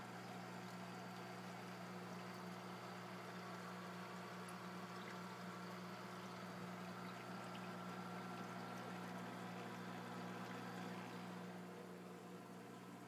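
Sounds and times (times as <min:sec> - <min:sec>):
steady low hum: 0:00.0 - 0:13.0
water splashing and bubbling: 0:00.1 - 0:13.0.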